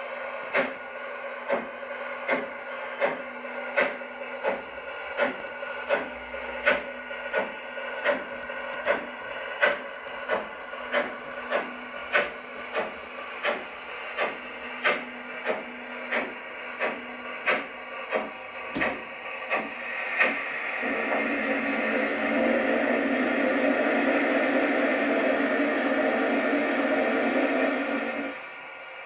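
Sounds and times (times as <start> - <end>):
model train motor whirring: 0.0 - 28.8.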